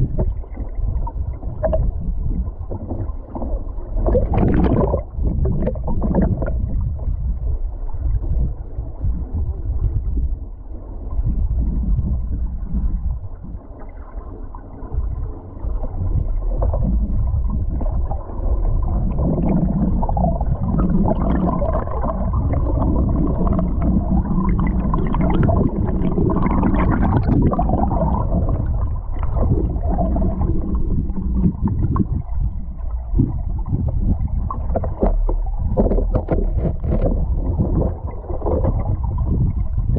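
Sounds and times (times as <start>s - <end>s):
muffled underwater river gurgling: 0.0s - 39.9s.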